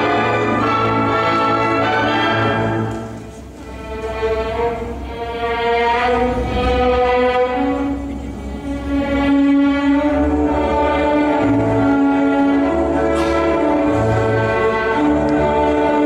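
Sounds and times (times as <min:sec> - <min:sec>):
orchestral strings holding long notes: 0:00.0 - 0:16.0.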